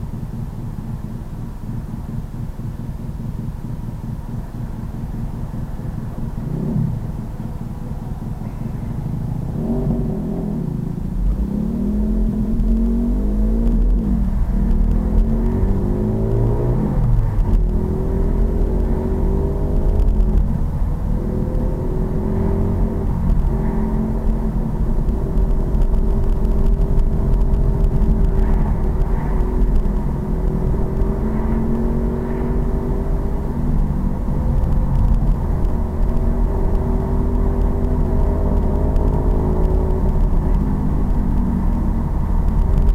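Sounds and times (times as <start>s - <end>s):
steady low rumble: 0.0s - 42.9s.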